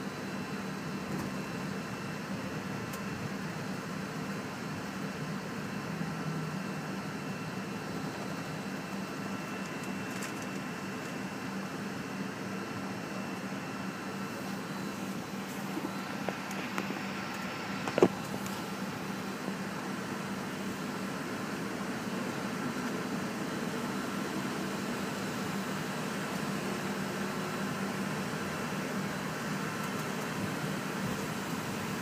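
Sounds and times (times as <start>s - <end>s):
airliner cabin hum with whine: 0.0s - 32.0s.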